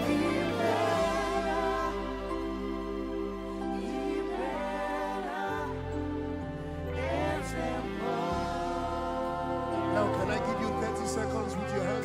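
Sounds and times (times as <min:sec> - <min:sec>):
keyboard chords: 0:00.0 - 0:12.0
slow worship music: 0:00.0 - 0:12.0.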